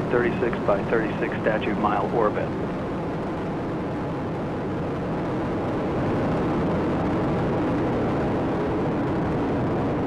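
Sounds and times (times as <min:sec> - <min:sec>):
deep rocket engine rumble: 0:00.0 - 0:10.0.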